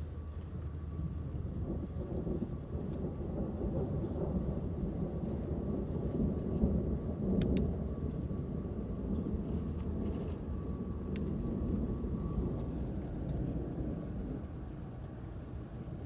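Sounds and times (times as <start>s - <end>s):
steady rain: 0.0s - 16.0s
rolling thunder: 0.2s - 16.0s.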